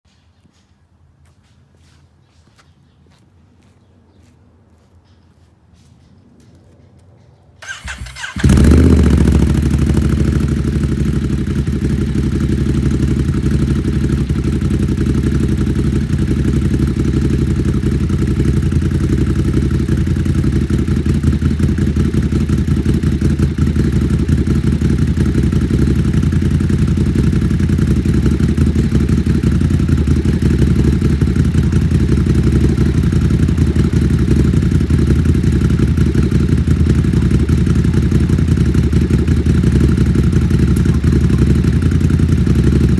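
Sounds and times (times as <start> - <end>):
motorcycle engine idling: 7.6 - 42.9.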